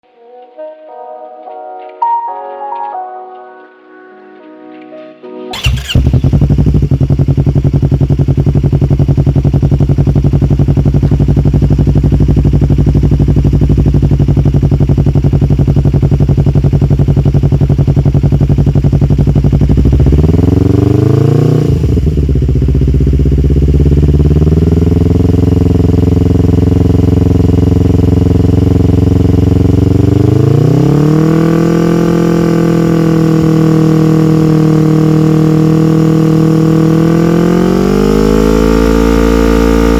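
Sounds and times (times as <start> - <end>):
motorcycle engine revving: 5.5 - 39.9.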